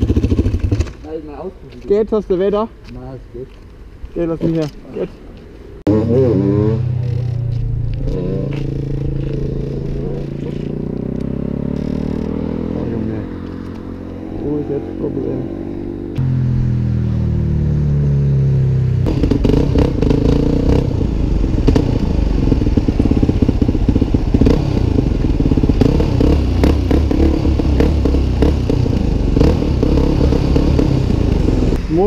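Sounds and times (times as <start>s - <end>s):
motorcycle engine revving: 0.0s - 1.2s, 5.9s - 32.0s.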